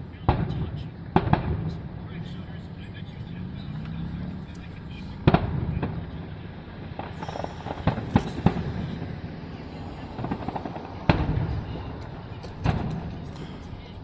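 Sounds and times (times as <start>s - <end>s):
fireworks boom with rumble: 0.0s - 2.9s, 5.0s - 14.0s
fireworks bangs: 0.0s - 14.0s
fireworks crackling: 0.0s - 14.0s.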